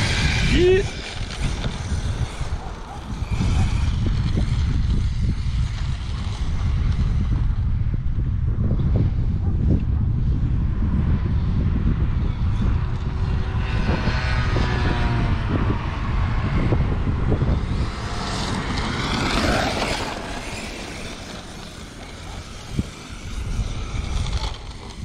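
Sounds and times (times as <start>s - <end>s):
electric motor whine: 0.0s - 8.1s, 10.7s - 25.0s
wind rumbling on microphone: 0.0s - 25.0s.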